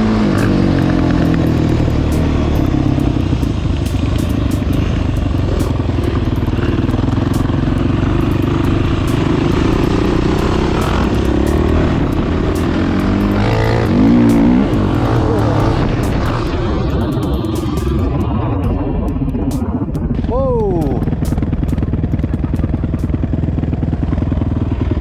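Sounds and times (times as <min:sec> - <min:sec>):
motorcycle engine under load: 0:00.0 - 0:25.0.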